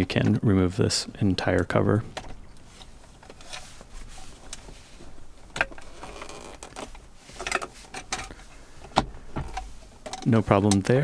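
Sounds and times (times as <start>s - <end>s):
light rustling: 2.1s - 11.0s.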